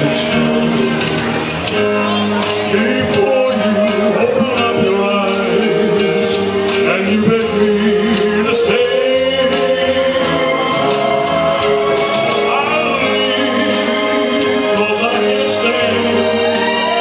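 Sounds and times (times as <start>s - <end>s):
band playing slow ballad: 0.0s - 17.0s
person singing: 0.0s - 17.0s.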